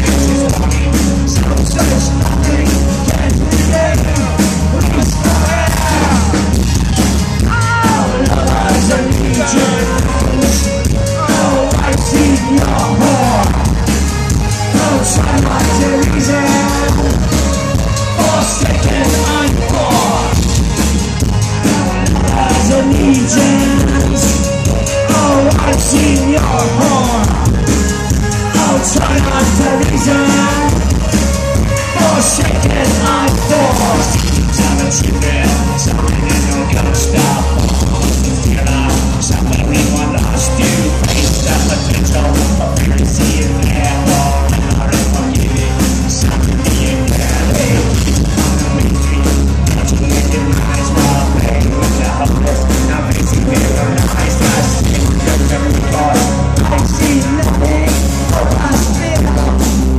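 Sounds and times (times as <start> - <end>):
loud electronic rock music: 0.0 - 59.9
person singing: 0.0 - 59.9.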